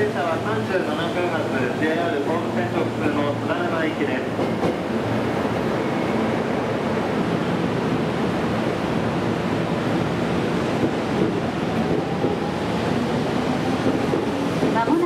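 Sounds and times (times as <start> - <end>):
train rushing: 0.0 - 15.0.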